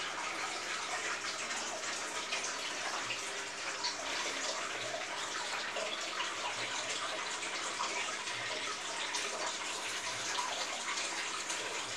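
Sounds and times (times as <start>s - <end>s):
aquarium aeration bubbling: 0.0s - 11.9s.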